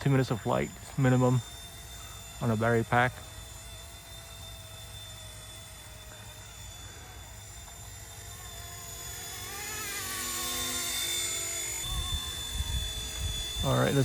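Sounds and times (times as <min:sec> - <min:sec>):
remote-control helicopter whine: 0:00.0 - 0:14.0.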